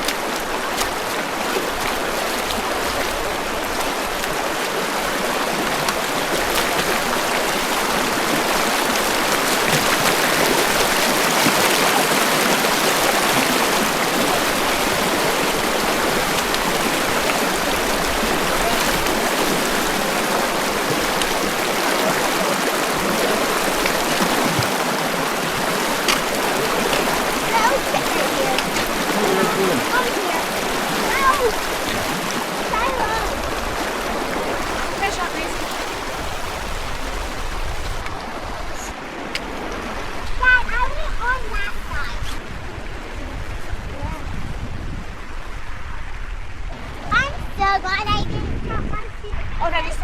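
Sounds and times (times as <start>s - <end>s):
stream rushing: 0.0s - 50.0s.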